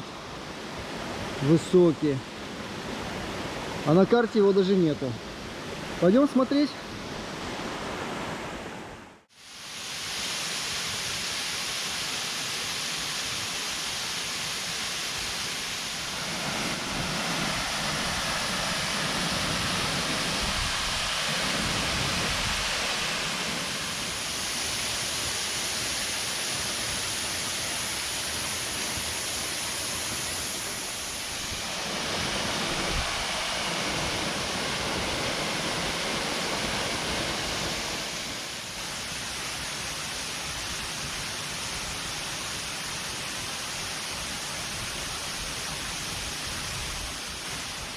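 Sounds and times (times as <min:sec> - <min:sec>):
waterfall rushing: 0:09.4 - 0:47.9.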